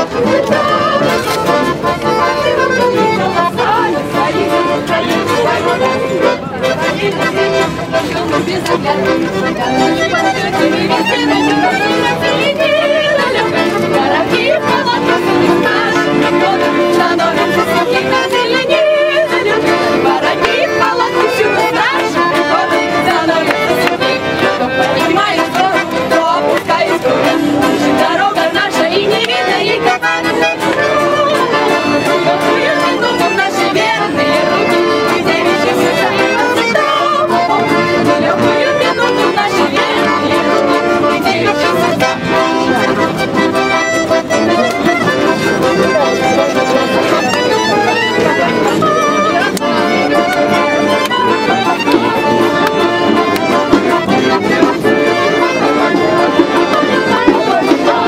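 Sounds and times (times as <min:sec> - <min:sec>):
women singing together: 0:00.0 - 0:43.3, 0:46.3 - 0:58.0
button accordions: 0:00.0 - 0:58.0.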